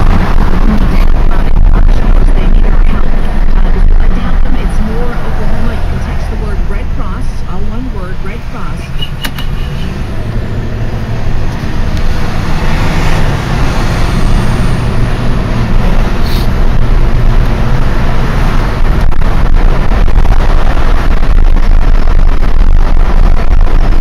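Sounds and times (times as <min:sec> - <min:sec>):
road noise: 0:00.0 - 0:24.0
vehicle engine hum: 0:00.0 - 0:24.0.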